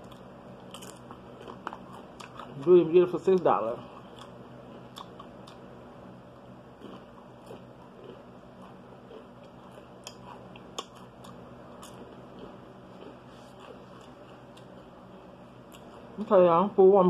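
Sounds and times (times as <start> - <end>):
person chewing food: 0.0 - 2.7, 3.8 - 5.7, 6.3 - 16.2.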